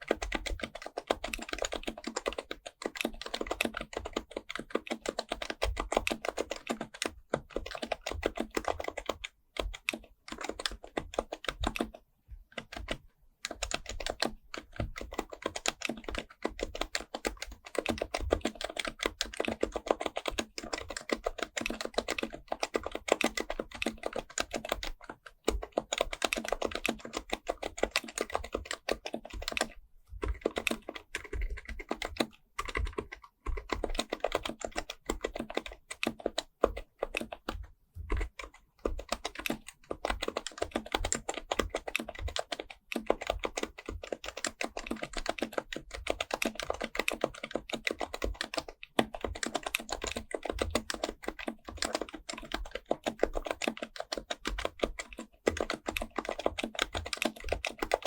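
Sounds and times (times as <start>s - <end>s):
fast keyboard typing: 0.0s - 58.0s.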